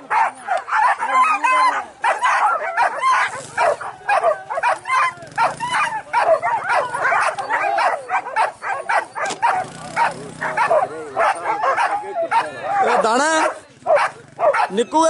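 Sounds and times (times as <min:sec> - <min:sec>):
dogs yelping and barking: 0:00.0 - 0:15.0.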